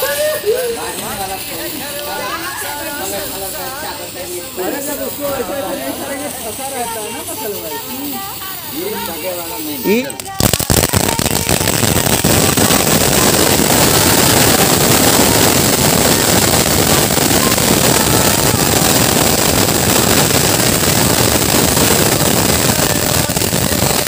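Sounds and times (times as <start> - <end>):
firework fountain hissing and crackling: 0.0 - 24.0.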